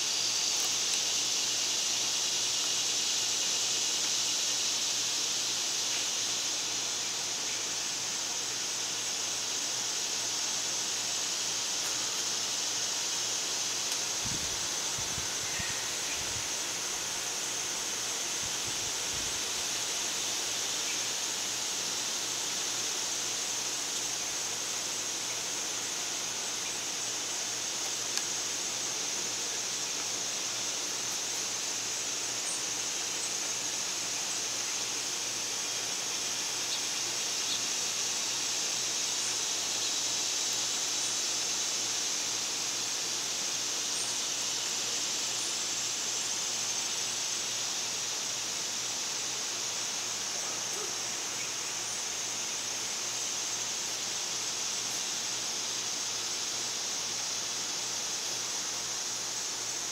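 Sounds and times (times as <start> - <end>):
high-pitched outdoor hiss: 0.0 - 59.9.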